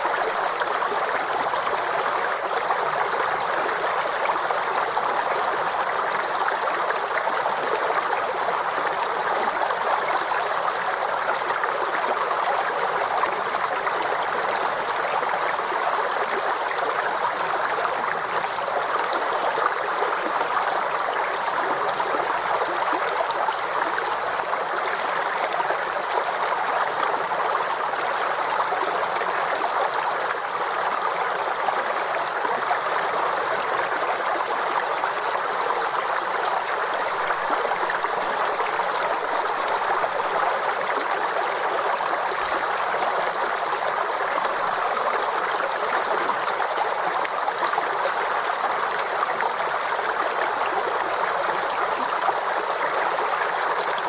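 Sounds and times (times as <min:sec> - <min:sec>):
stream babbling over stones: 0:00.0 - 0:54.0.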